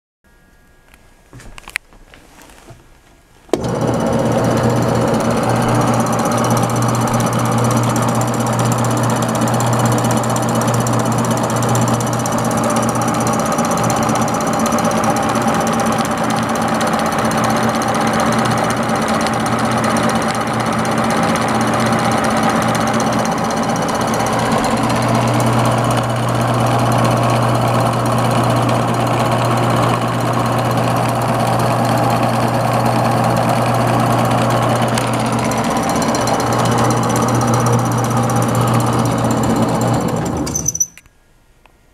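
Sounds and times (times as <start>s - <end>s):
slicing machine motor humming: 3.5s - 40.9s.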